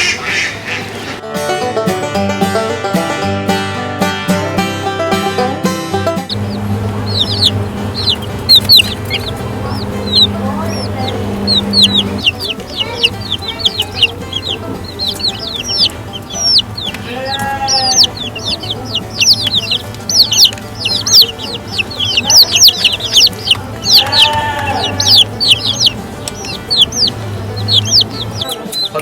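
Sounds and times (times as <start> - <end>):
chicks peeping: 0.0 - 1.2, 6.3 - 29.0
longer lower chick calls: 0.0 - 1.2, 6.3 - 29.0.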